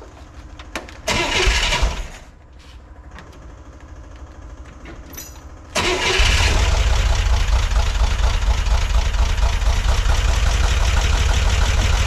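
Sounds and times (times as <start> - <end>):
engine cranked by starter: 1.0 - 2.3, 3.3 - 12.0.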